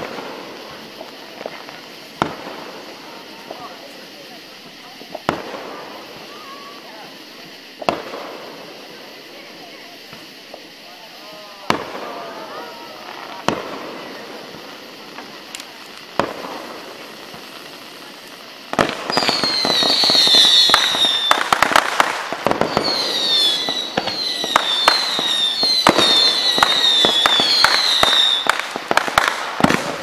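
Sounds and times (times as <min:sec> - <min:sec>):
descending fireworks whistles: 0:00.0 - 0:30.0
fireworks crackling bangs: 0:00.0 - 0:30.0.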